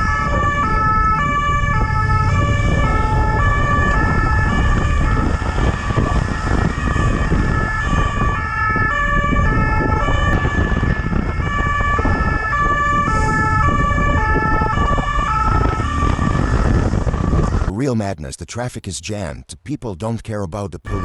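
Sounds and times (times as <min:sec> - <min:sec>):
police siren wailing: 0:00.0 - 0:17.7
road and engine rumble: 0:00.0 - 0:19.6.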